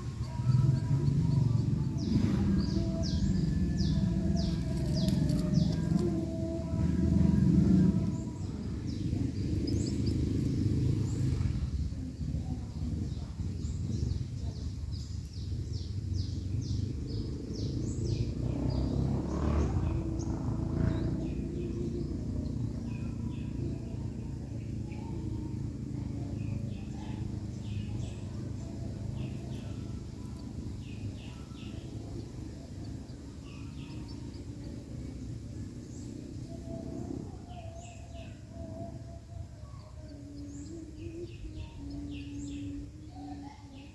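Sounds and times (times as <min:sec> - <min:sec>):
birds giving high chirps: 0:00.0 - 0:43.9
low outdoor rumble: 0:00.0 - 0:43.9.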